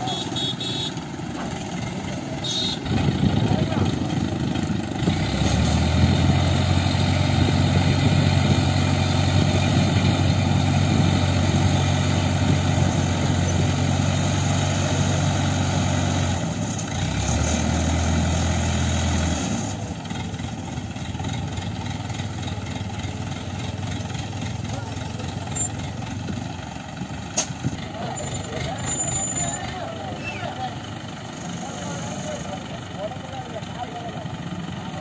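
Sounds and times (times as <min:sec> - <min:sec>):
crane engine running: 0:00.0 - 0:35.0.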